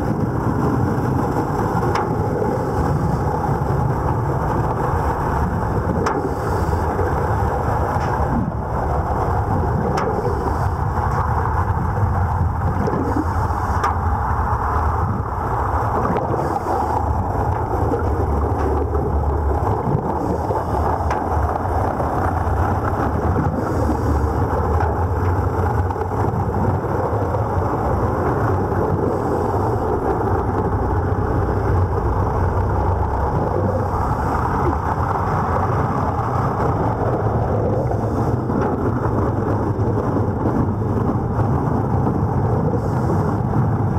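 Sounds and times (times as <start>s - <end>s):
muffled underwater rumble: 0.0s - 43.9s.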